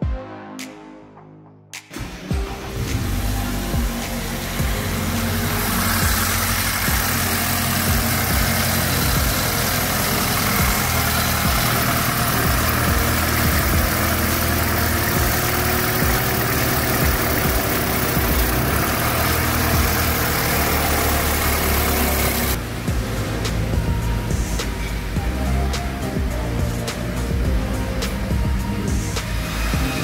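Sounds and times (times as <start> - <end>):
car engine idling: 2.0 - 30.0.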